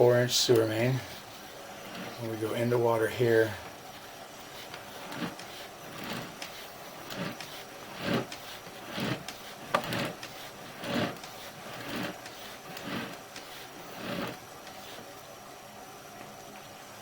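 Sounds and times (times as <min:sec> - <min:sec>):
cable sliding through drain: 0:00.0 - 0:15.1.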